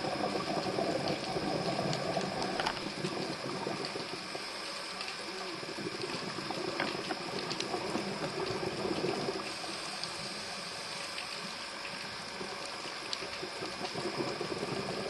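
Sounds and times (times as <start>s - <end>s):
regulator bubbles: 0.0s - 15.0s
underwater hiss: 0.0s - 15.0s.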